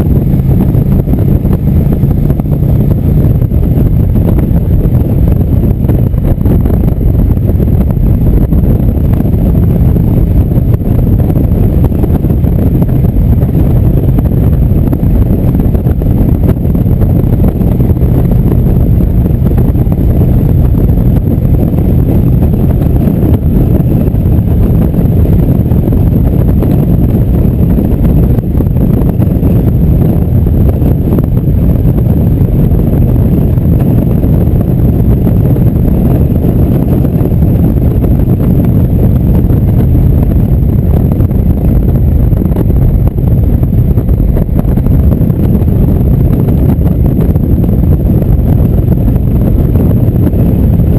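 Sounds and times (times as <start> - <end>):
motorcycle engine drone: 0.0 - 50.9
wind rush on microphone: 0.0 - 50.9.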